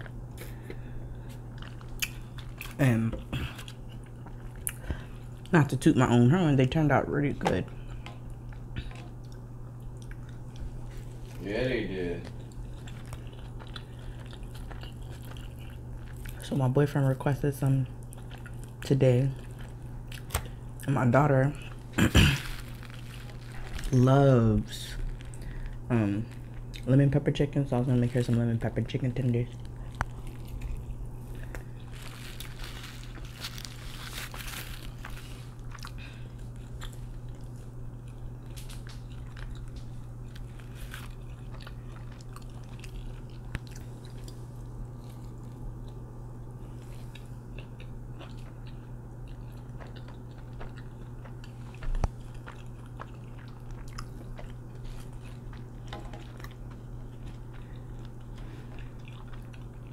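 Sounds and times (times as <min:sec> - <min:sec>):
crunchy chewing: 0:00.0 - 0:05.5, 0:07.8 - 0:16.6, 0:17.8 - 0:20.9, 0:21.5 - 0:59.9
low hum: 0:00.0 - 0:59.9.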